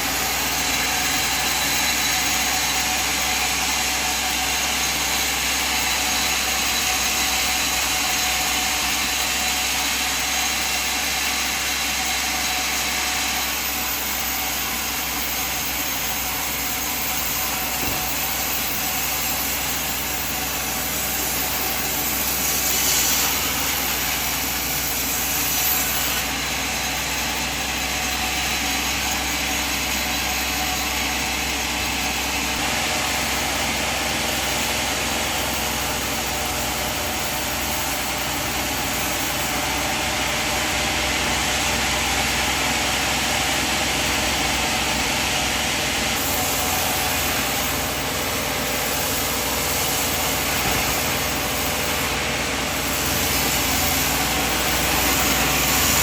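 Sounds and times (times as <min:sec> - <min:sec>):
sawmill machine humming: 0:00.0 - 0:56.0.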